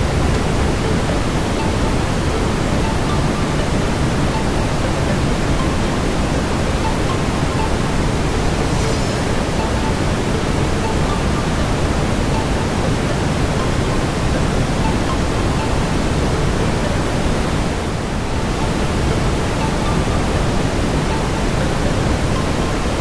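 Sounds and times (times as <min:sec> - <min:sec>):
brown noise hiss: 0:00.0 - 0:23.0.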